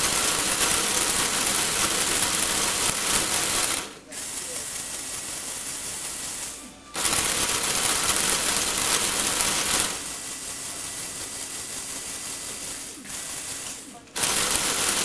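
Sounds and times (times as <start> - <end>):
toy gear train whirring and rattling: 0.0 - 15.0.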